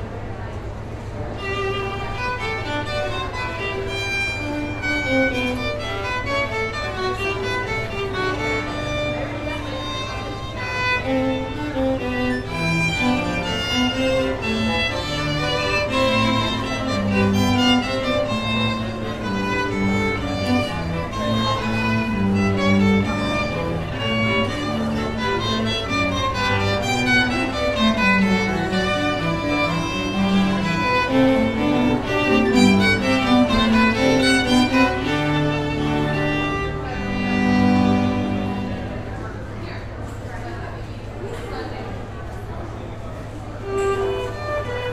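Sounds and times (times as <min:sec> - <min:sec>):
violin melody: 0:00.0 - 0:39.8, 0:43.5 - 0:44.9
cello and lower strings: 0:00.0 - 0:44.9.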